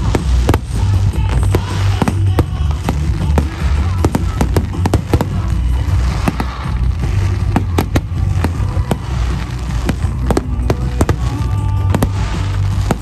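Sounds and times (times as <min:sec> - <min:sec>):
deep continuous rumble: 0:00.0 - 0:13.0.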